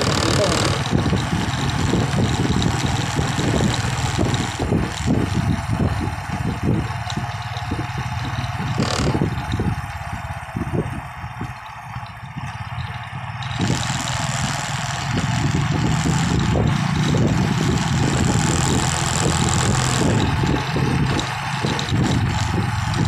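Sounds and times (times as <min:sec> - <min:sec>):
wind rush on microphone: 0:00.0 - 0:12.8, 0:13.4 - 0:23.0
motorcycle engine running: 0:00.0 - 0:23.0.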